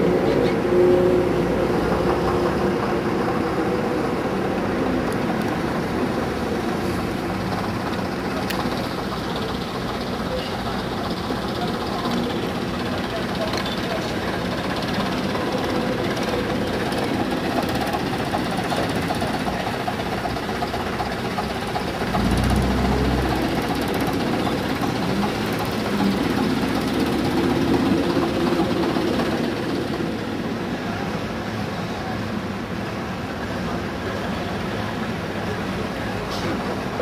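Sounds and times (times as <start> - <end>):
bus diesel engine pulling away: 0.0 - 37.0.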